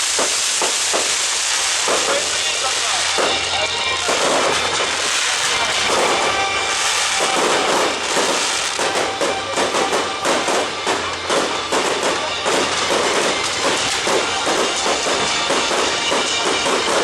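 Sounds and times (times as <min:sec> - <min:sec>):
fireworks banging and crackling: 0:00.0 - 0:17.0
music: 0:01.6 - 0:17.0.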